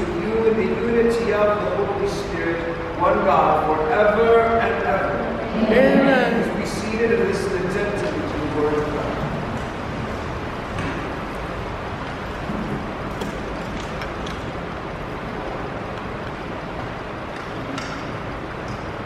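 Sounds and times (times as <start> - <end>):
room hiss: 0.0 - 19.0.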